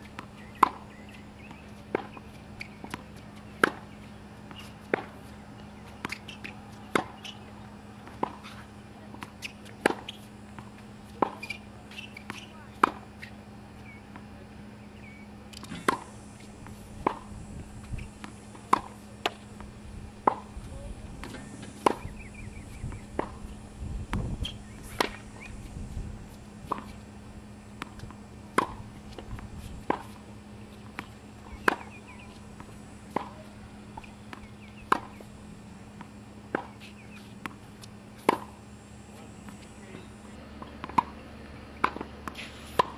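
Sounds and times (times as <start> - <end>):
tennis balls struck by rackets: 0.0 - 42.9.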